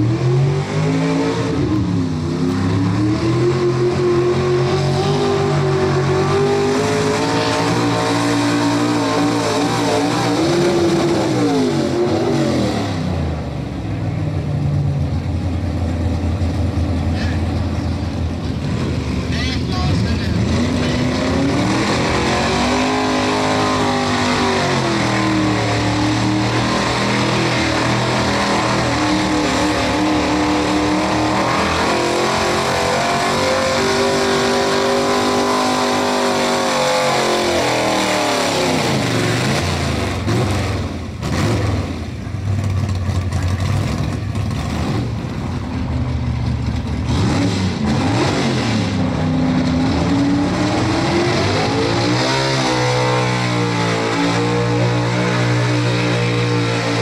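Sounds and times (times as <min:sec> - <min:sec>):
pickup truck engine revving under load: 0:00.0 - 0:14.2, 0:20.2 - 0:57.0.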